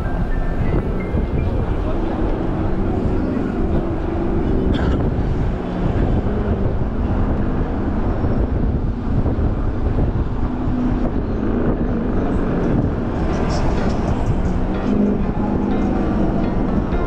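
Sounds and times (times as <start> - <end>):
faint engine hum: 0.0 - 17.0
road noise rumble: 0.0 - 17.0.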